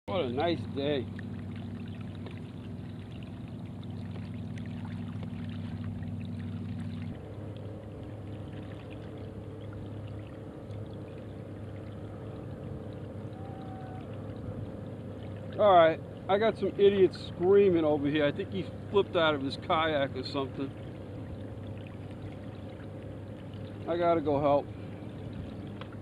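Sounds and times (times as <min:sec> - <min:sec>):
steady low hum: 0:00.0 - 0:26.0
water trickling along hull: 0:00.0 - 0:26.0.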